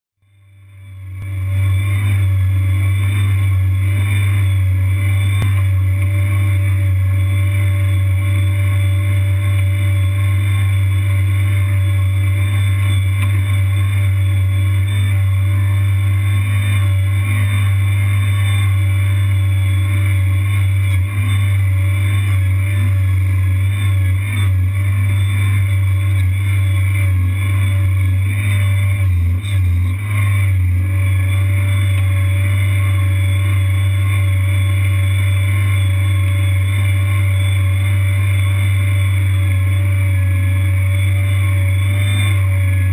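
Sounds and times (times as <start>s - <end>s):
small engine running loudly: 0.2s - 42.9s.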